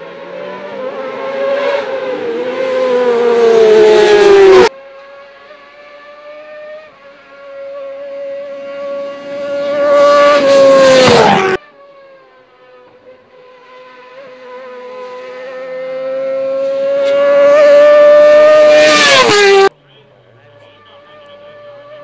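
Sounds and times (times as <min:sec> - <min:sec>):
motorcycle engine at high revs: 0:00.0 - 0:19.7.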